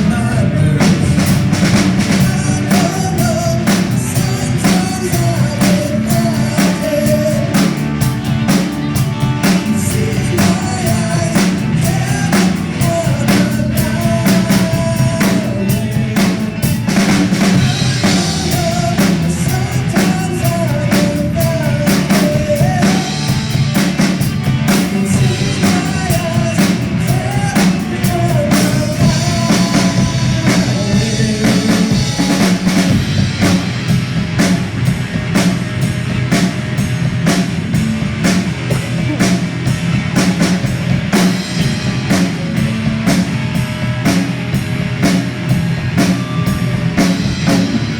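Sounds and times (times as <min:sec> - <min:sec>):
bass line: 0:00.0 - 0:47.9
drum kit beat: 0:00.0 - 0:47.9.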